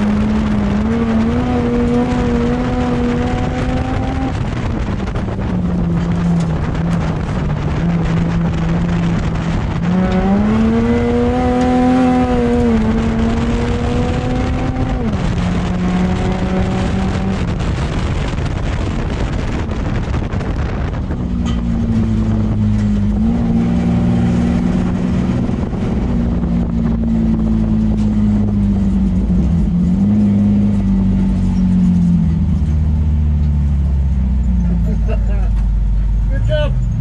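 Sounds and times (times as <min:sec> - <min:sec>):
race car engine running: 0:00.0 - 0:37.0
tyre and dirt noise: 0:00.0 - 0:37.0.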